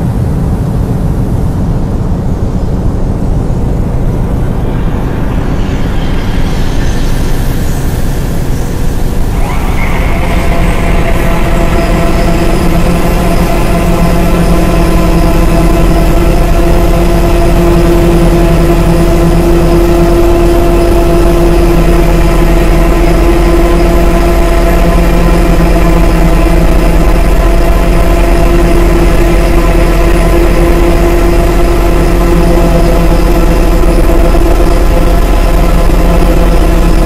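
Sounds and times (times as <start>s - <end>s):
dark ambient synthesizer drone: 0.0s - 37.0s
deep low rumble: 0.0s - 37.0s
held synth tones: 3.7s - 36.6s.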